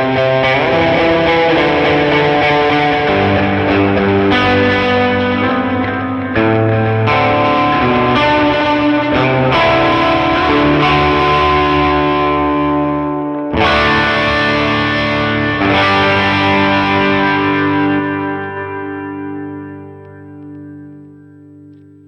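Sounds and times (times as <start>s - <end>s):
distorted electric guitar chords: 0.0s - 22.0s.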